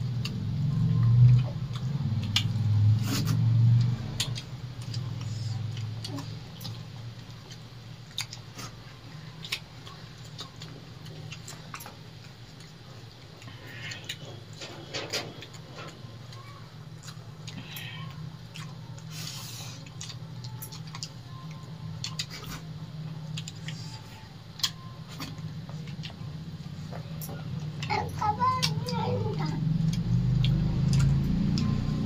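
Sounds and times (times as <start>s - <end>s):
steady low hum: 0.0s - 32.0s
chewing: 0.1s - 32.0s.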